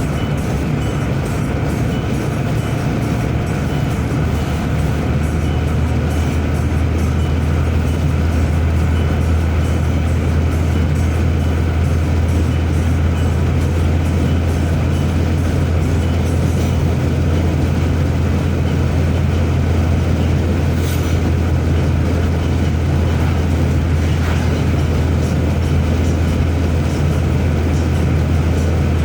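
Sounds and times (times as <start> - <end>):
car road noise inside cabin: 0.0 - 29.0.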